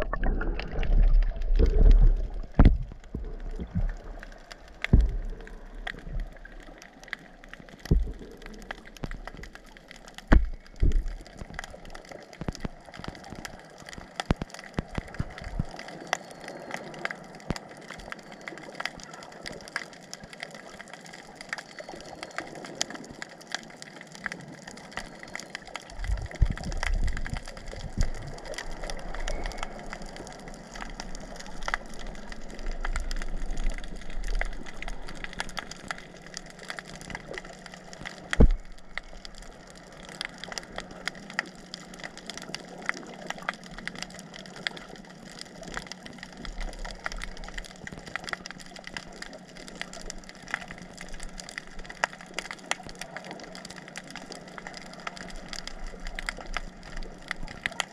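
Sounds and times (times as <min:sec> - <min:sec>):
faint steady hum: 0:00.0 - 0:57.9
underwater crackle of clicks: 0:00.0 - 0:57.9
water movement surges: 0:00.0 - 0:57.9.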